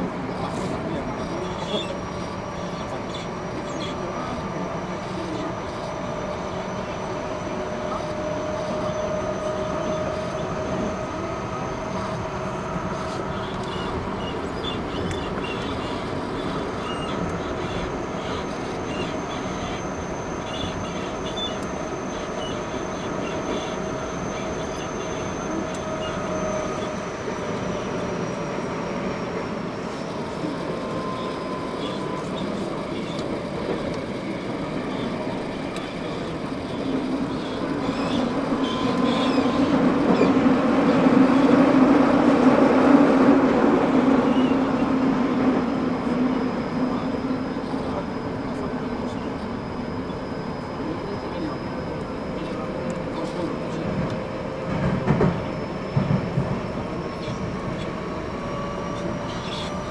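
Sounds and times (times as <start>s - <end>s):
subway wheels rumbling on rail: 0.0s - 59.9s
thin whine: 0.4s - 59.9s.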